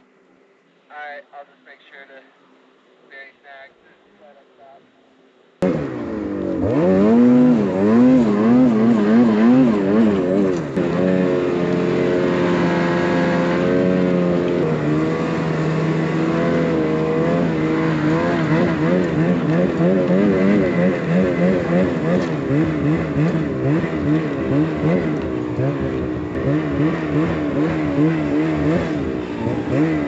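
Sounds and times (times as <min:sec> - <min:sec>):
snowmobile engine revving: 0:05.6 - 0:30.0.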